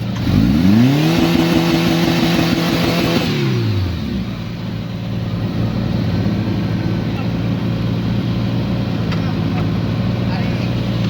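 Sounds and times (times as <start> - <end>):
vehicle engine revving then idling: 0.0 - 11.0.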